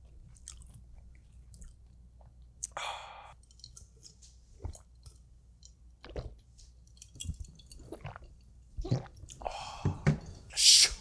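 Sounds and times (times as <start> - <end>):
person chewing food: 0.0 - 9.5.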